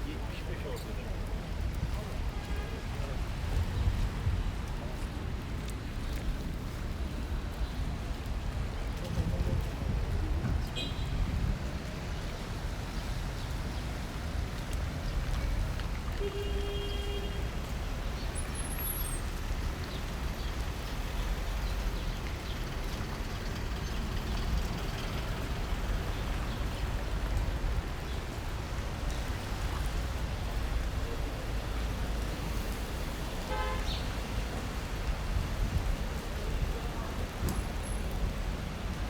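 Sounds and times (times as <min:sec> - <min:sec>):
traffic on wet street: 0:00.0 - 0:39.0.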